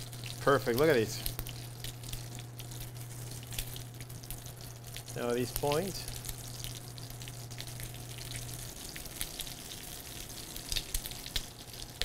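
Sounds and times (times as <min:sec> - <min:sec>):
food sizzling in hot oil: 0:00.0 - 0:12.0
low steady hum: 0:00.0 - 0:12.0.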